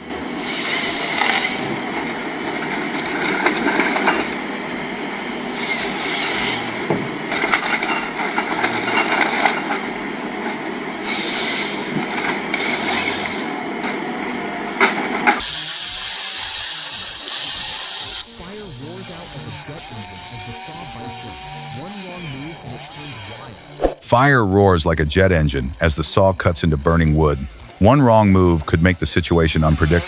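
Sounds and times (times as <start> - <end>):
harvester engine and hydraulics: 0.0 - 24.2, 24.8 - 30.0
saw cutting timber: 0.0 - 30.0.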